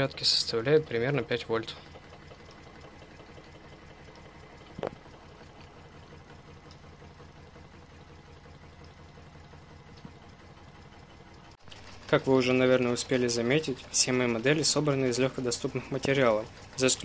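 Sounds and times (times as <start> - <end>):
engine generator faint hum: 0.0 - 17.0.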